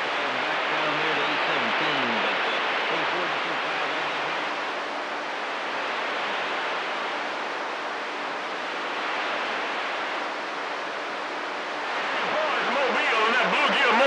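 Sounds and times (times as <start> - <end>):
faint steady hum: 0.0 - 14.0
radio static hiss: 0.0 - 14.0.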